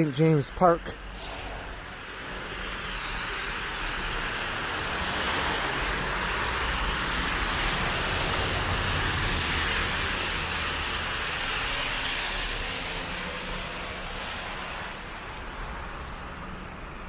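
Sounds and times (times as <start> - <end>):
tyres hissing on road: 0.0 - 17.0.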